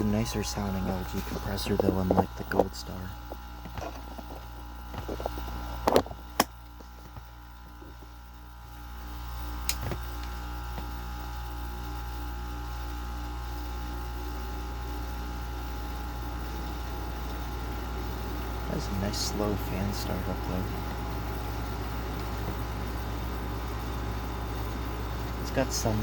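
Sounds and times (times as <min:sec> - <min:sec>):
air conditioner compressor hum: 0:00.0 - 0:26.0
air conditioner fan running: 0:00.0 - 0:26.0.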